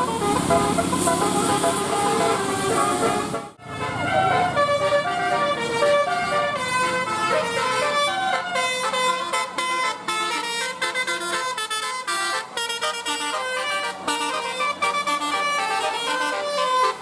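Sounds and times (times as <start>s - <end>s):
bus horn playing a melody: 0.0s - 17.0s.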